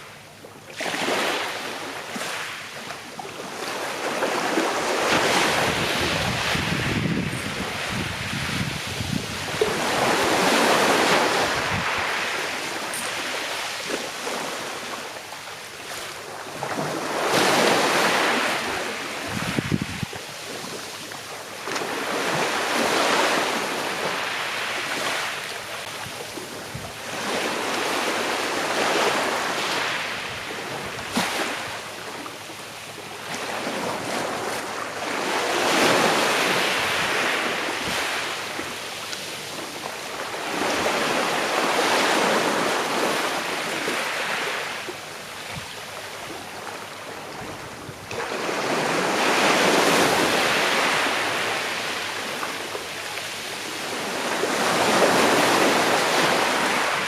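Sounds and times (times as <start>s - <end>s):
sea waves washing onto shore: 0.0s - 57.0s.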